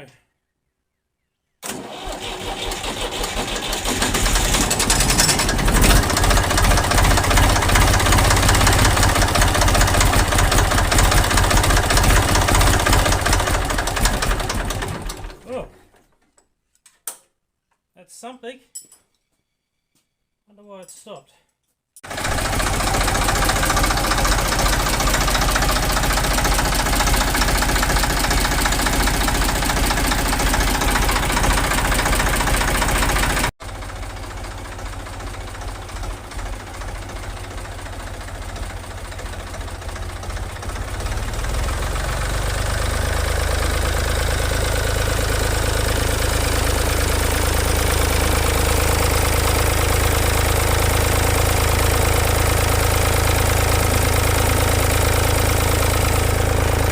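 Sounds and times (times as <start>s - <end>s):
diesel tractor engine knocking: 3.2s - 15.4s, 22.0s - 56.9s.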